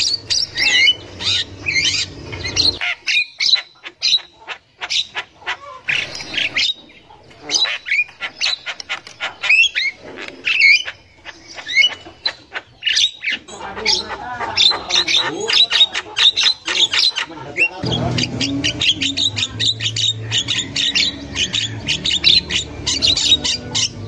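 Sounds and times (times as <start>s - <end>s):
myna chattering: 0.0s - 24.0s.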